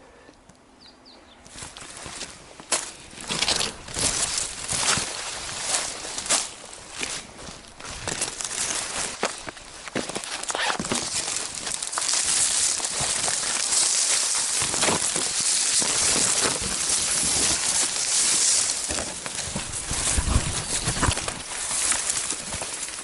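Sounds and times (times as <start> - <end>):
footsteps on a trail: 1.4 - 23.0.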